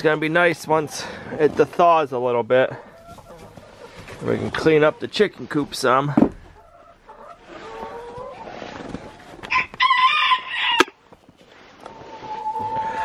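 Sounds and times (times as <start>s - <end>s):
chickens clucking: 0.0s - 10.9s, 11.5s - 13.0s.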